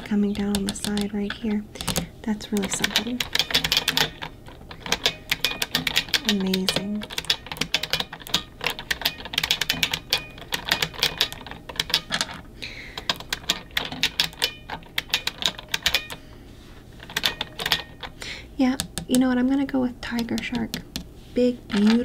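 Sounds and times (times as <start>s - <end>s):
mechanical keyboard typing: 0.0s - 16.2s, 17.0s - 22.0s.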